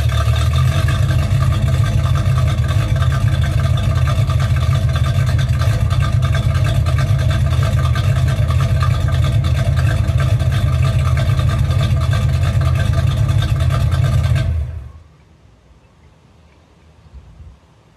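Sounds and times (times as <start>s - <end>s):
vee eight engine idling: 0.0s - 15.1s.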